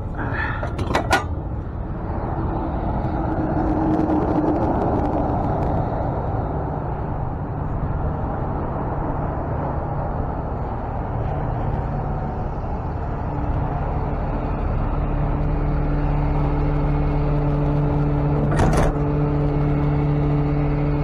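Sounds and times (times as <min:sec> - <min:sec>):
tow truck engine running: 0:00.0 - 0:02.6, 0:06.6 - 0:21.0.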